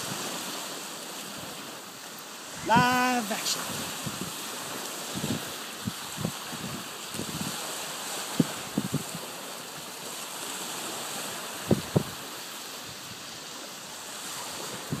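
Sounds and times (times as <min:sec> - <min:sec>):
small waves washing onto beach: 0:00.0 - 0:15.0
wind on microphone: 0:02.4 - 0:09.5, 0:10.1 - 0:15.0.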